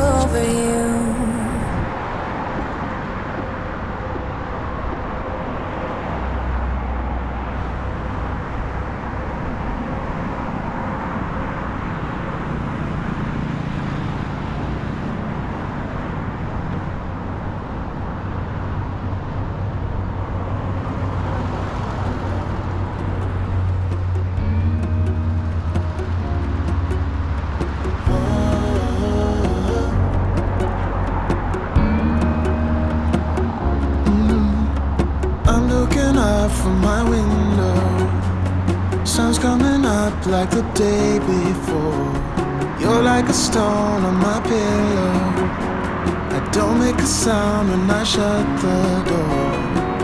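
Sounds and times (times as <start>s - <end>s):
cars passing on busy street: 0.0s - 50.0s.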